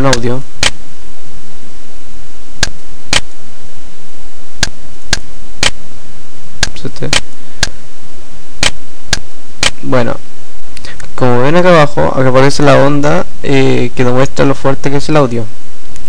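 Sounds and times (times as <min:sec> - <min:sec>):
loud steady hiss: 0:00.0 - 0:16.0.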